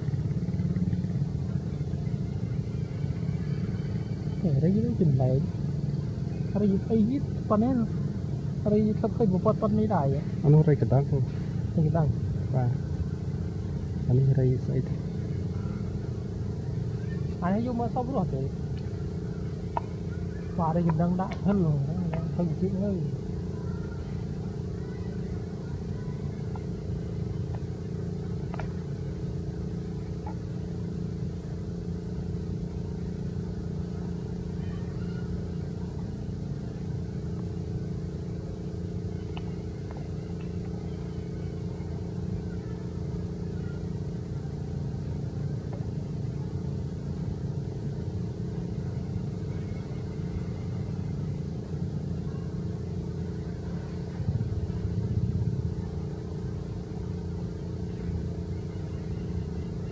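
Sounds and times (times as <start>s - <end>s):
motor running with hum: 0.0s - 59.9s.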